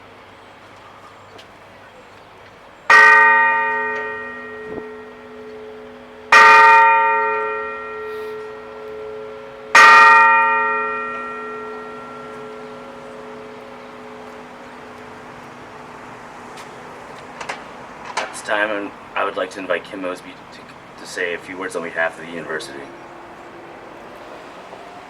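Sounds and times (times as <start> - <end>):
ship's bell ringing: 0.0 - 25.0.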